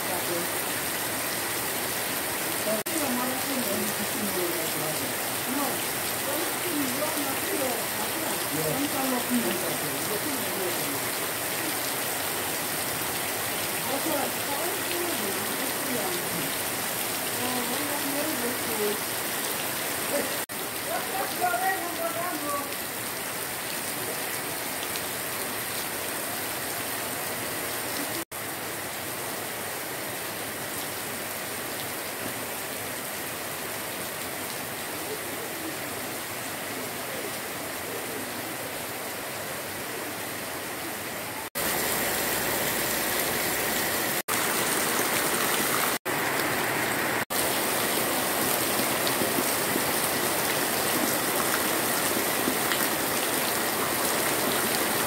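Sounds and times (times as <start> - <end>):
heavy rain on grass: 0.0 - 55.0
rain splashing into puddles: 0.0 - 55.0.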